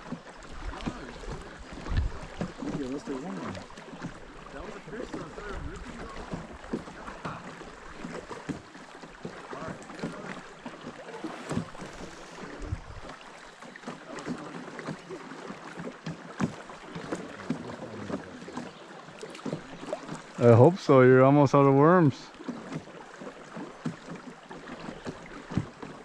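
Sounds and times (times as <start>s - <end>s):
water moving around boat hull: 0.0s - 26.0s.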